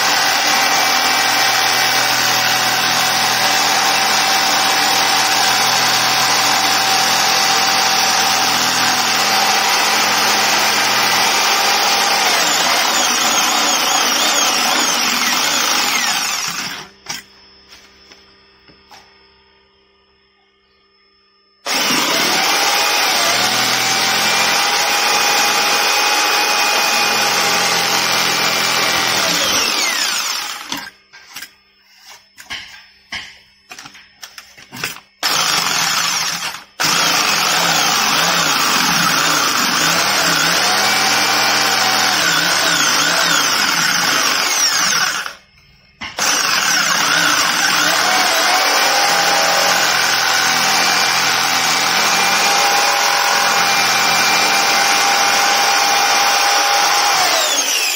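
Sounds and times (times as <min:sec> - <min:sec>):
electric jigsaw cutting wood: 0:00.0 - 0:17.2, 0:21.6 - 0:30.9, 0:35.2 - 0:45.4, 0:46.1 - 0:57.9.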